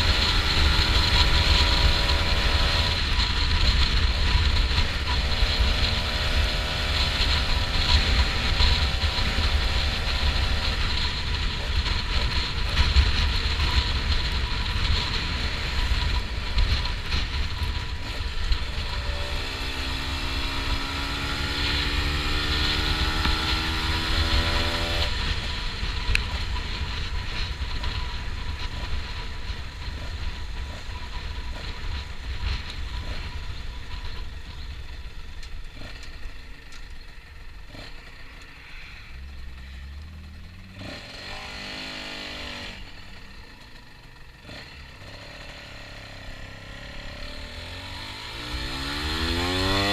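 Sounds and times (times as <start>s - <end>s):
wind noise on microphone: 0.0s - 36.4s, 44.4s - 49.9s
motorcycle engine running: 0.0s - 49.9s.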